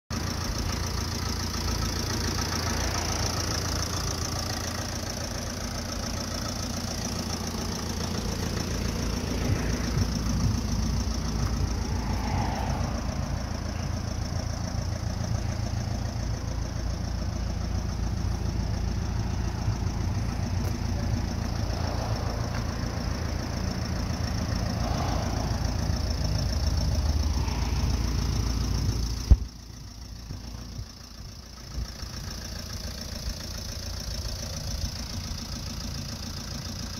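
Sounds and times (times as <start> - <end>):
van engine idling: 0.1 - 36.9.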